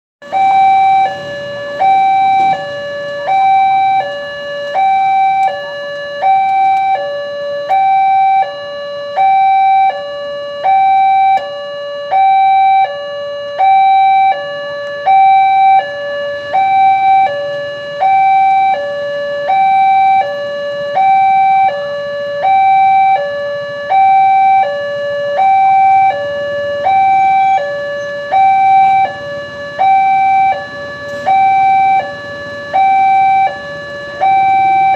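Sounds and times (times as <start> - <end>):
level crossing alarm two tones: 0.2 - 34.9.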